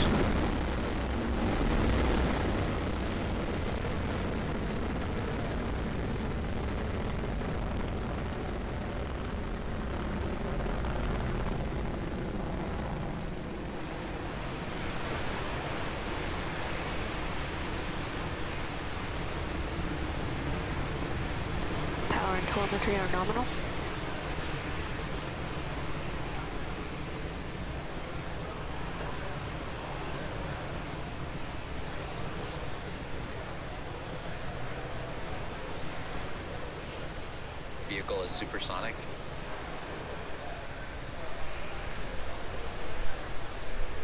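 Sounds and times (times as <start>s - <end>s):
rocket engines rumbling: 0.0s - 44.0s.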